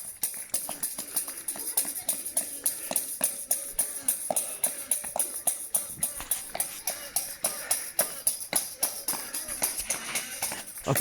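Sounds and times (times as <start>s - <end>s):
tambourine jingling: 0.0s - 11.0s.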